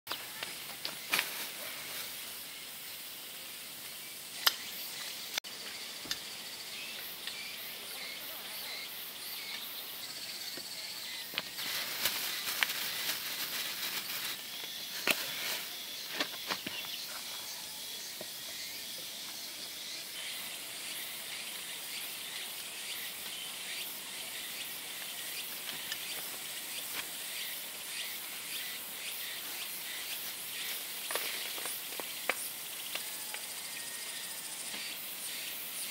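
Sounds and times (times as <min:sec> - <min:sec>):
insects chirring: 0:00.1 - 0:35.9.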